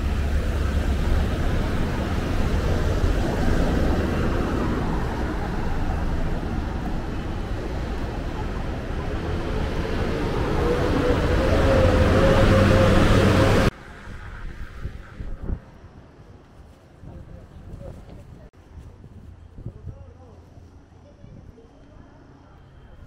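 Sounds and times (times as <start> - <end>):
traffic noise with low rumble: 0.0 - 23.0.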